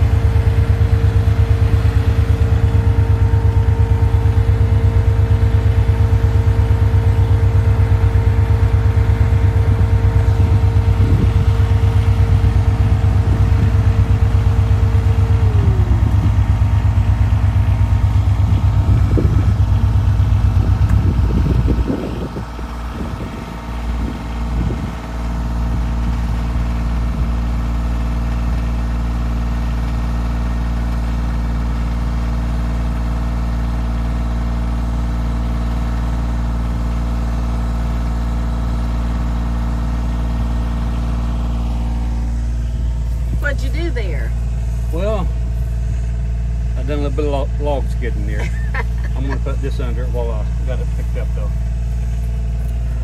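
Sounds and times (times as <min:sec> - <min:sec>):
engine idling: 0:00.0 - 0:53.0
louder engine running: 0:00.0 - 0:53.0.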